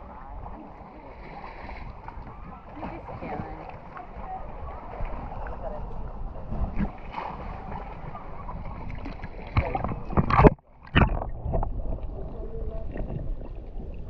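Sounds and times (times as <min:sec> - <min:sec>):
underwater wash of water: 0:00.0 - 0:14.0
water sloshing and splashing: 0:00.0 - 0:14.0.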